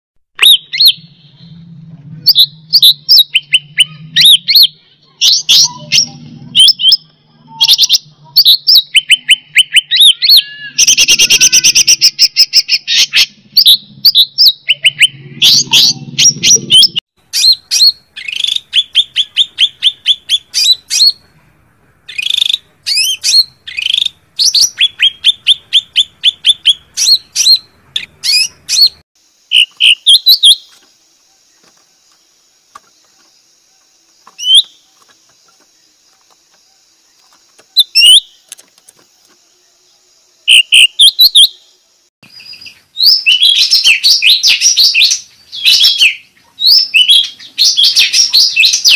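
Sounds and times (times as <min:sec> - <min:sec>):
bird chirping and trilling: 0:00.4 - 0:21.4, 0:22.0 - 0:30.9, 0:32.7 - 0:48.9.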